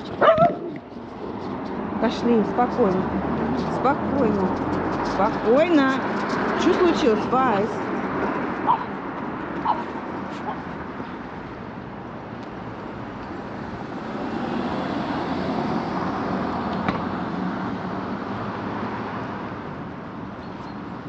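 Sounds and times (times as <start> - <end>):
vehicle passing by: 0.0 - 11.4, 13.4 - 19.6
road traffic noise: 0.0 - 21.0.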